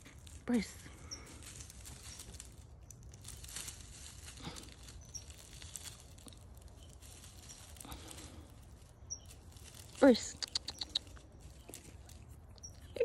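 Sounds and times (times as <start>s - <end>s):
dry leaves and twigs rustling: 0.0s - 13.0s.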